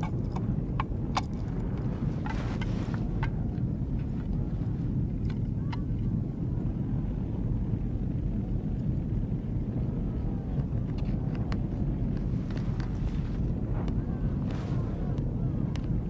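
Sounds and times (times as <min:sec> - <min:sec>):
low rumbling outdoor ambience: 0:00.0 - 0:16.0.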